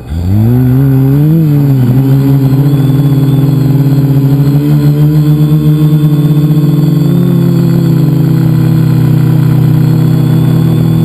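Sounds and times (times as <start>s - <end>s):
drone motors buzzing: 0.0s - 11.0s.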